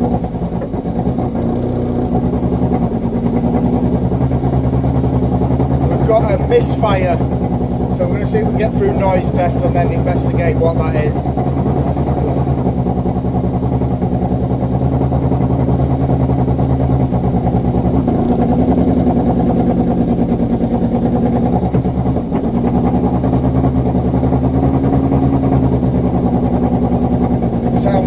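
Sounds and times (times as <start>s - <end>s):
race car engine idling: 0.0s - 28.0s.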